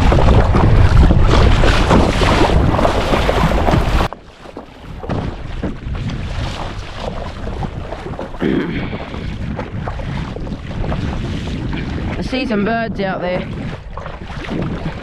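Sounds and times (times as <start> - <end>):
water splashing: 0.0 - 15.0
wind buffeting microphone: 0.0 - 15.0.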